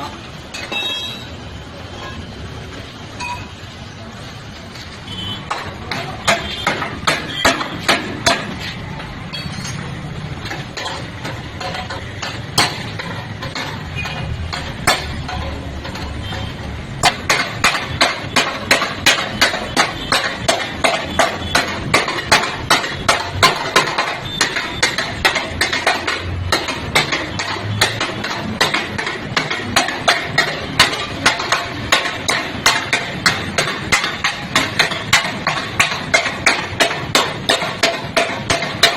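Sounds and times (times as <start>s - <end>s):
hammer striking sheet metal: 5.4s - 38.9s.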